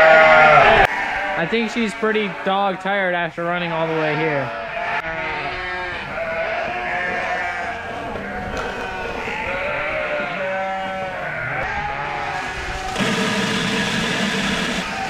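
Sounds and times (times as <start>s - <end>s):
sheep and lambs bleating: 0.0s - 13.0s, 14.7s - 15.0s.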